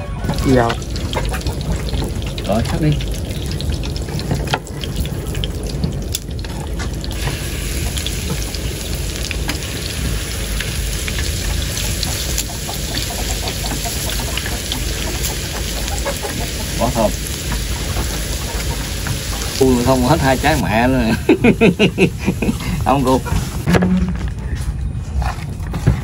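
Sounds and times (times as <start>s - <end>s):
drips and patters: 0.1s - 23.7s
steady rain hiss: 0.4s - 23.7s.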